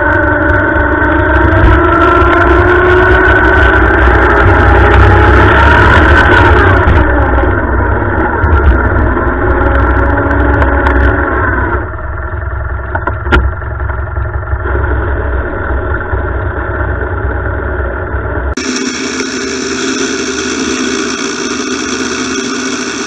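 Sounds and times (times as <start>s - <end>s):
lawn tractor engine running: 4.0s - 23.0s.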